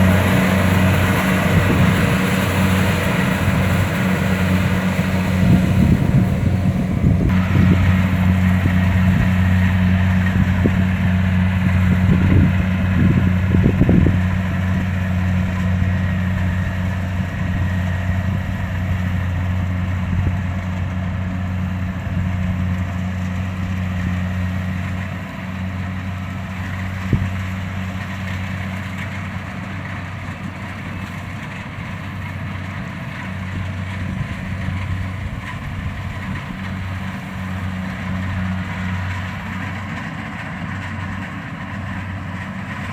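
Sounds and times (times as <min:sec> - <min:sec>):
combine harvester diesel engine: 0:00.0 - 0:42.9.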